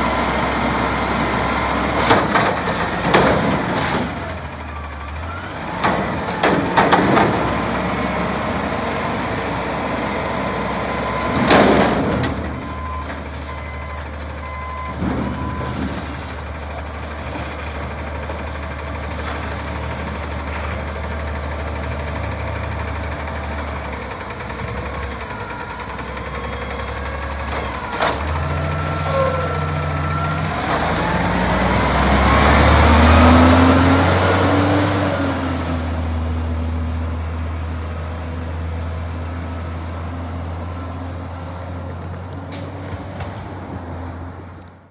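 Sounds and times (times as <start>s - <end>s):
garbage truck diesel engine: 0.0s - 44.9s.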